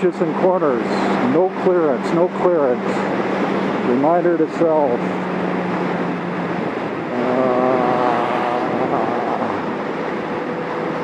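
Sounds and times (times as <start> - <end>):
heavy wind noise: 0.0 - 11.0.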